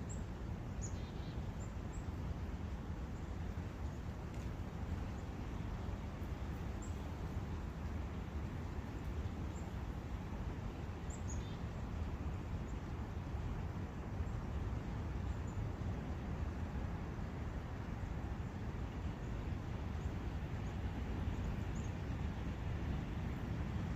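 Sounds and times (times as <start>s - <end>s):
brook flowing: 0.1s - 23.9s.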